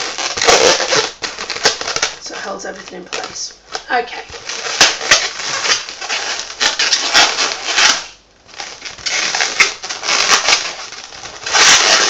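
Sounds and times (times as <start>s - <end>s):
balloons rubbing and crunching: 0.0s - 12.0s.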